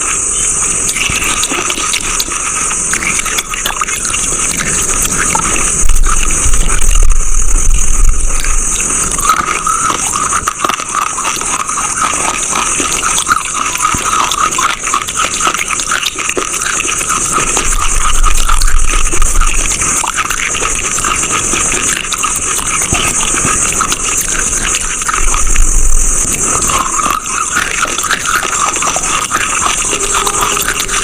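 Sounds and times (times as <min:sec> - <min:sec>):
chalk crunching and chewing: 0:00.0 - 0:31.0
steady high hiss: 0:00.0 - 0:31.0.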